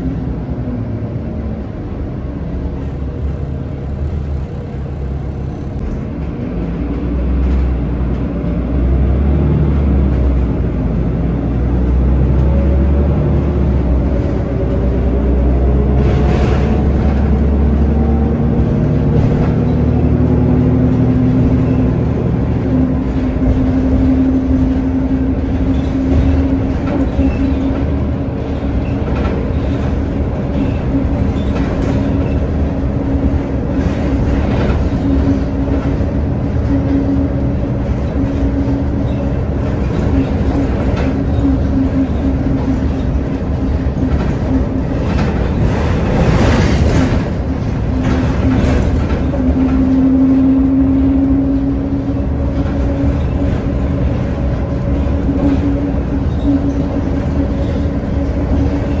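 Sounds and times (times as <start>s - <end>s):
bus drivetrain whine: 0.0s - 59.0s
road rumble: 0.0s - 59.0s.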